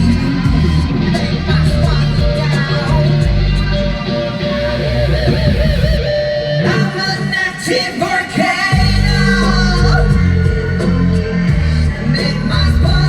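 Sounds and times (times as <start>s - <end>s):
heavy bass and drum beat: 0.0s - 13.0s
live pop-rock song: 0.0s - 13.0s
man singing: 0.0s - 13.0s.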